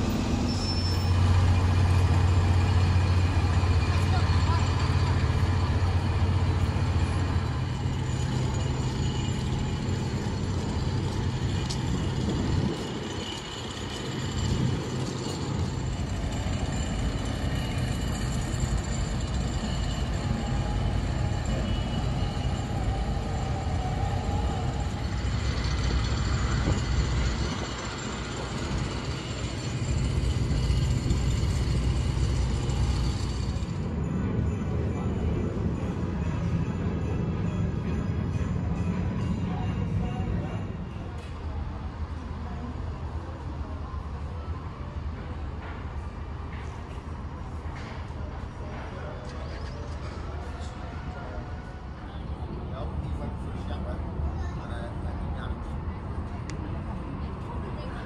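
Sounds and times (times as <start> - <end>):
vehicle engine rumble: 0.0 - 50.8.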